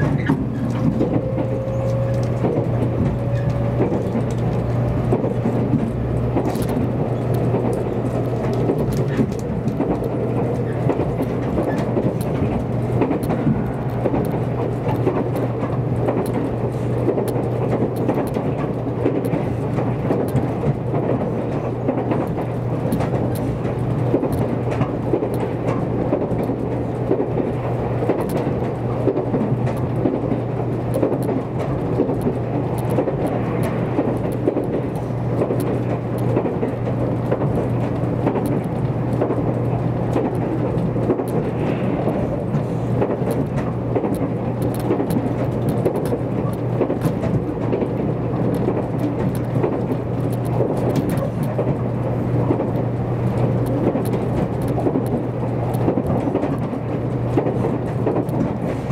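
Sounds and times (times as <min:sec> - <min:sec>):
train running rumble: 0:00.0 - 0:58.9.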